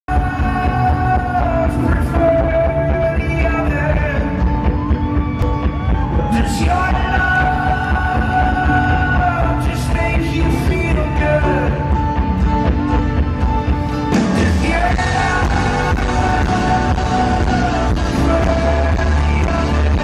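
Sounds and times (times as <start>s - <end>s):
folk-rock band playing live: 0.1s - 20.0s.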